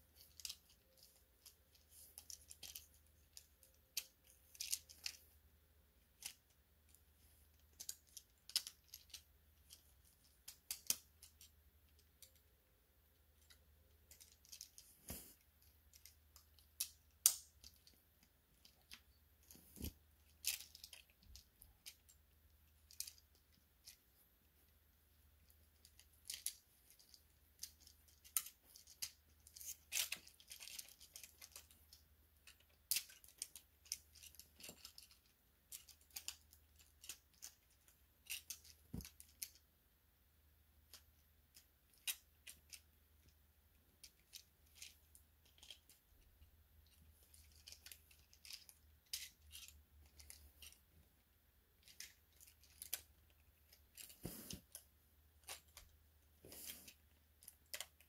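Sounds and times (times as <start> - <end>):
plastic toy parts clicking: 0.2 - 5.2, 6.0 - 12.5, 13.4 - 14.8, 15.6 - 24.0, 25.4 - 39.6, 40.9 - 43.3, 43.9 - 46.2, 46.8 - 50.8, 51.8 - 54.8, 57.1 - 58.0.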